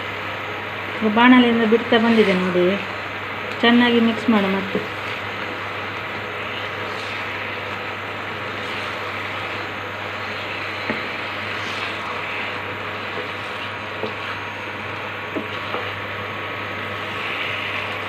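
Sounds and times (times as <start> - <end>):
thick mixture bubbling and sizzling: 0.0 - 18.0.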